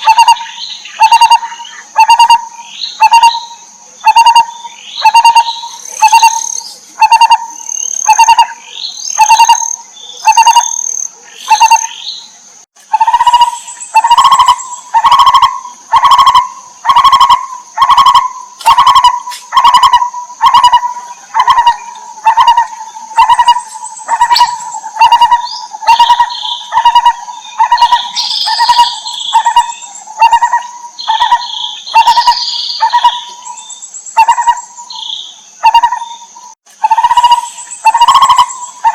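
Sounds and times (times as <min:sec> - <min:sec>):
barbet calling hollow notes: 0:00.0 - 0:03.4, 0:04.0 - 0:06.4, 0:07.0 - 0:08.6, 0:09.2 - 0:10.7, 0:11.5 - 0:11.9, 0:12.9 - 0:33.3, 0:36.8 - 0:38.9
high bird chirps: 0:00.0 - 0:12.3, 0:13.0 - 0:38.9.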